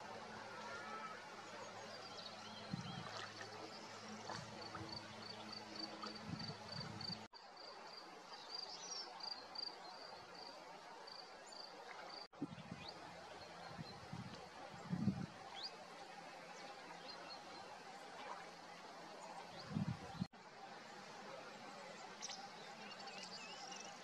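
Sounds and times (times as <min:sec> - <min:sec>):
faint water hiss: 0:00.0 - 0:24.0.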